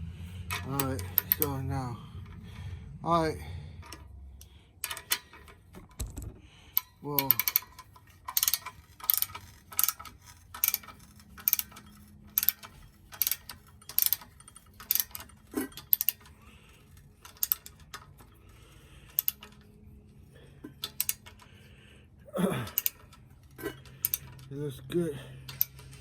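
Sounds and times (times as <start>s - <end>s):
ratchet wrench clicking: 0.4s - 1.7s, 3.8s - 19.7s, 20.7s - 21.5s, 22.7s - 26.0s.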